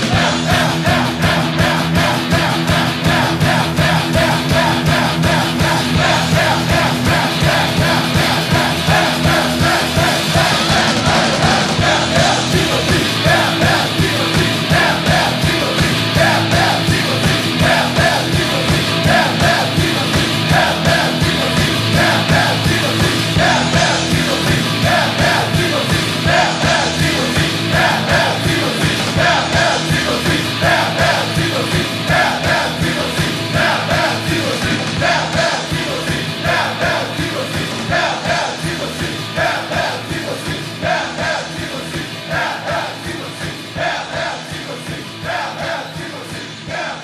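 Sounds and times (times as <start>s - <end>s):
fast drum beat: 0.0s - 47.0s
group of voices chanting: 0.0s - 47.0s
loud rock music: 0.0s - 47.0s.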